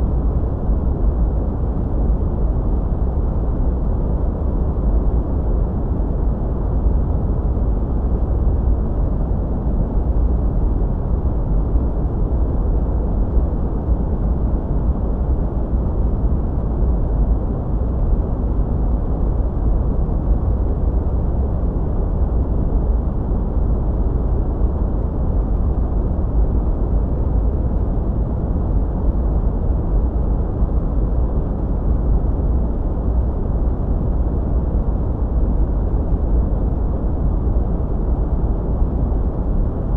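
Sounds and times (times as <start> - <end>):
deep rumbling white noise: 0.0 - 39.9.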